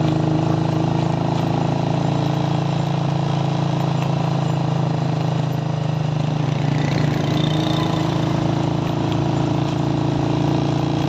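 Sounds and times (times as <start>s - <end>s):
motorcycle engine humming: 0.0s - 11.0s.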